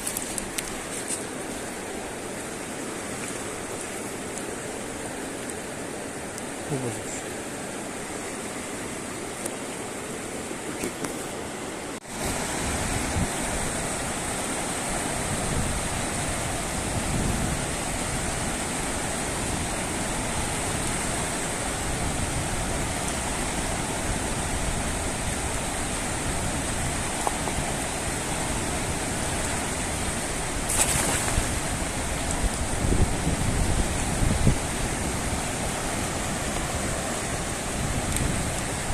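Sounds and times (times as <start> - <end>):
fast-flowing river rushing: 0.0 - 38.9.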